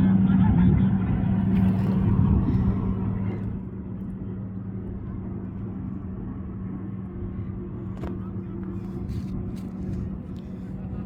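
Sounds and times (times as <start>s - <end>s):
engine humming: 0.0s - 11.0s
rumbling background: 0.0s - 11.0s.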